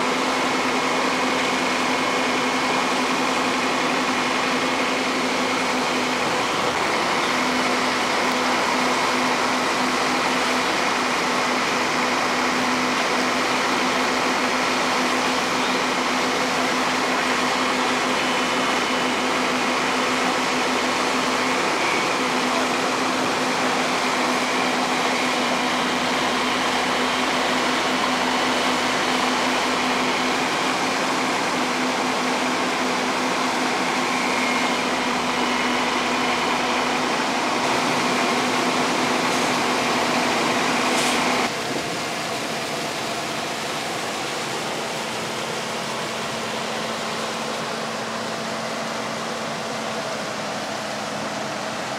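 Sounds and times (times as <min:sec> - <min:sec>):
fire truck engine and pump droning: 0:00.0 - 0:51.9.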